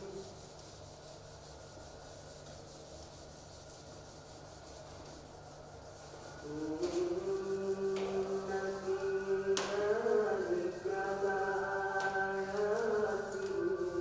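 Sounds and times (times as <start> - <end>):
eraser wiping a whiteboard: 0.0 - 14.0.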